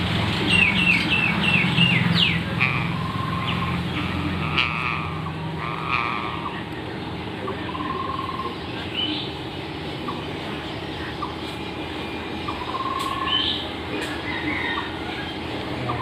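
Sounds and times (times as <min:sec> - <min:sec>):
buzzy bird trills: 0:00.4 - 0:06.7, 0:07.4 - 0:16.0
bird chirps: 0:00.4 - 0:16.0.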